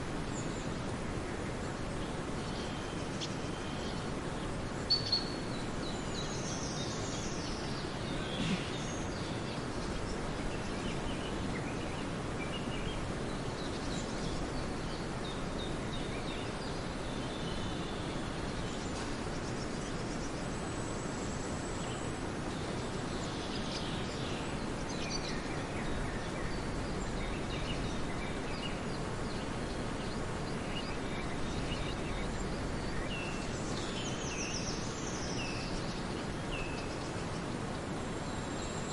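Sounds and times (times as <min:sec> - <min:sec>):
steady background hiss: 0:00.0 - 0:38.9
bird calls and chirps: 0:01.5 - 0:38.9.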